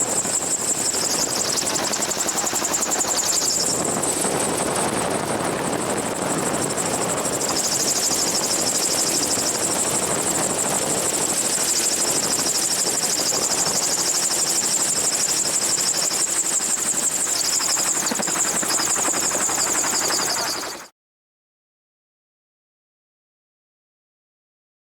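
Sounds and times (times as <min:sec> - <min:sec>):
gyrocopter engine running: 0:00.0 - 0:20.9.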